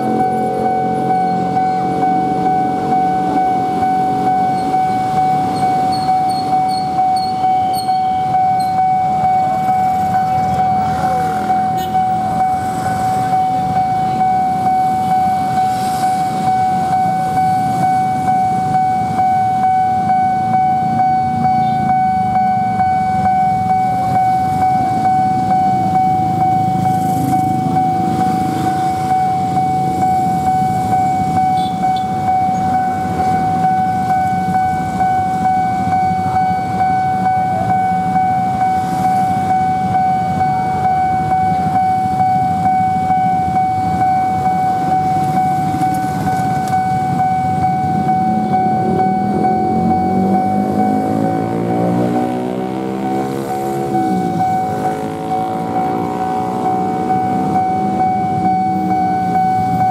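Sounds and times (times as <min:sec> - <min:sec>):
level crossing alarm tone: 0:00.0 - 0:59.9
motorcycles and cars idling and passing: 0:00.0 - 0:59.9.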